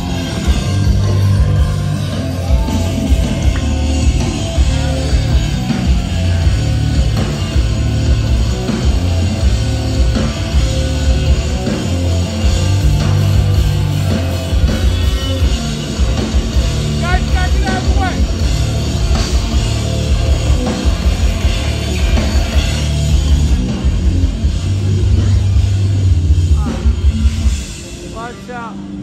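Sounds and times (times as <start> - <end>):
heavy bass line: 0.0 - 29.0
rock band playing loud: 0.0 - 29.0.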